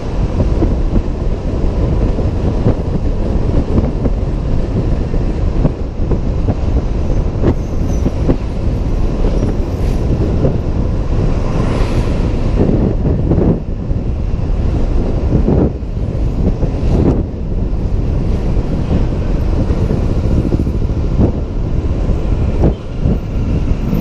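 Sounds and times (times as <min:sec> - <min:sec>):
wind and road rumble: 0:00.0 - 0:24.0.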